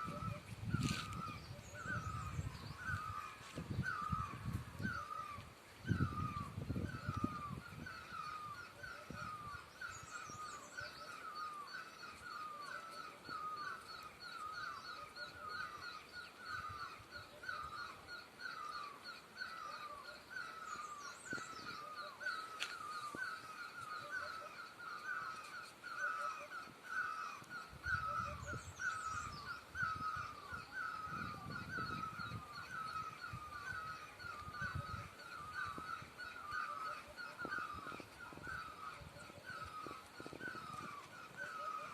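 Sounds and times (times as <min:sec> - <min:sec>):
birds making harsh repeated calls: 0:00.0 - 0:41.9.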